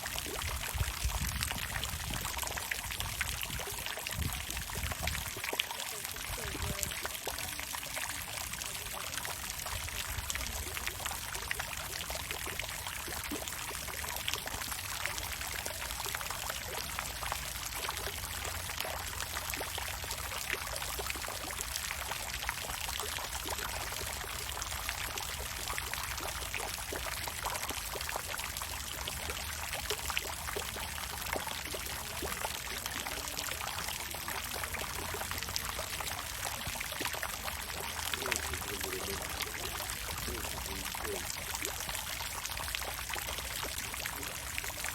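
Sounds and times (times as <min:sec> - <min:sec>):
fountain water splashing: 0:00.0 - 0:44.9.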